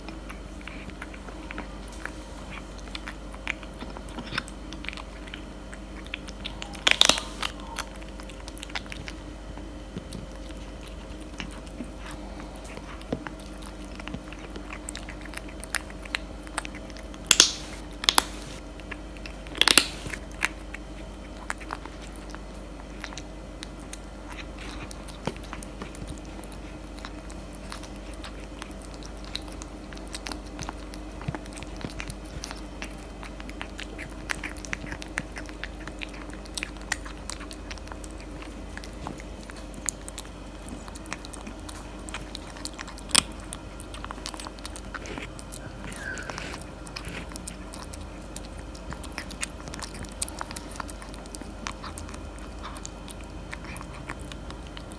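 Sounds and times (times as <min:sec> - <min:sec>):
cat chewing crunchy food: 0:00.0 - 0:54.9.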